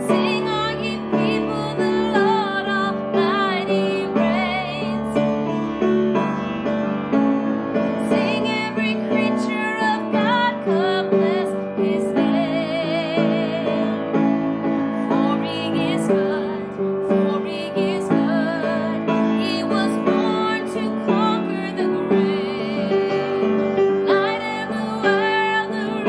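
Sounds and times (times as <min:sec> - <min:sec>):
woman singing with vibrato: 0:00.0 - 0:05.2, 0:08.0 - 0:14.1, 0:14.9 - 0:26.0
piano accompaniment: 0:00.0 - 0:26.0.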